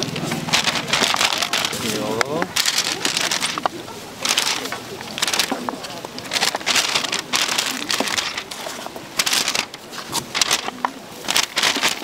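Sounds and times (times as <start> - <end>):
paper crinkling and scraping: 0.0 - 12.0.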